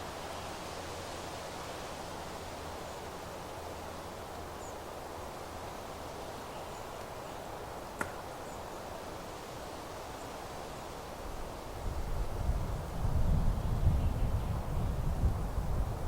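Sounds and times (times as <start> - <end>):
wind rustling grass and leaves: 0.0 - 16.0.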